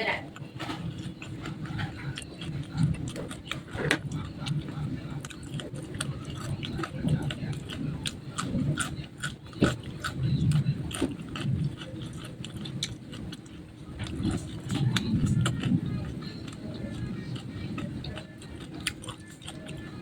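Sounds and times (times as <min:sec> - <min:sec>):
person chewing food loudly: 0:00.2 - 0:20.0.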